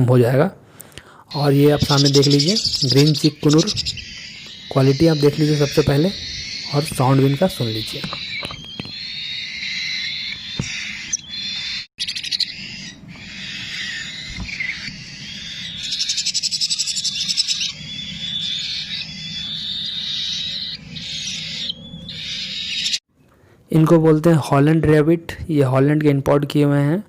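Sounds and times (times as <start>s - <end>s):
parrots chattering and screeching: 1.3s - 23.0s
pulsed buzzy bird call: 1.3s - 23.0s.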